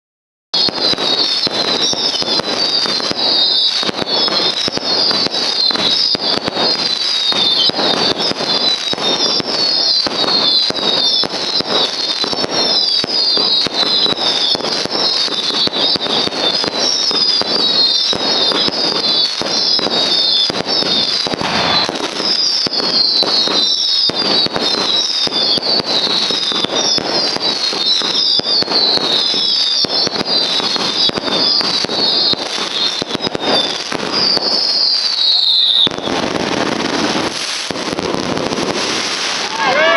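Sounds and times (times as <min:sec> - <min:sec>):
whistling fireworks falling in pitch: 0:00.5 - 0:39.9
fireworks bangs and crackles: 0:00.6 - 0:39.9.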